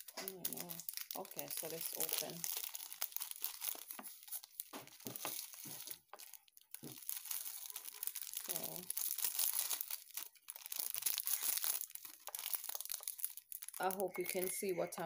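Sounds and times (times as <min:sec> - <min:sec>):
plastic packet crinkling: 0:00.0 - 0:15.0.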